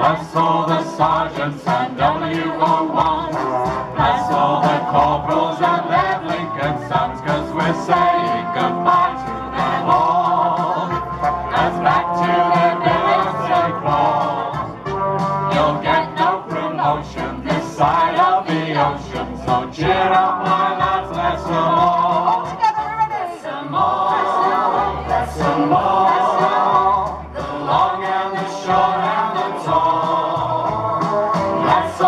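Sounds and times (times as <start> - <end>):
man and woman singing: 0.0 - 14.7, 15.5 - 32.0
instrumental backing track: 0.0 - 32.0.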